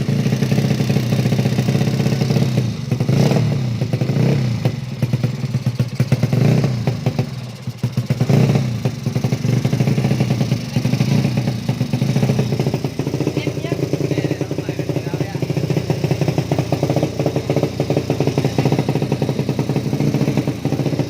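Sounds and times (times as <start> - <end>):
racing motorcycle engine revving: 0.0 - 21.0.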